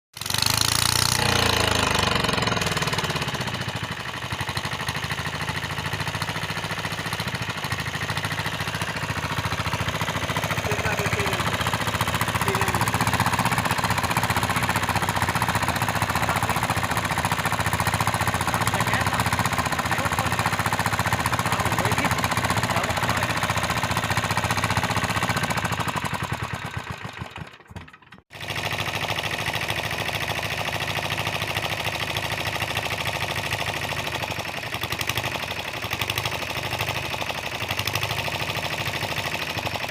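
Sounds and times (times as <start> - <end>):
engine knocking rapidly: 0.1 - 39.9.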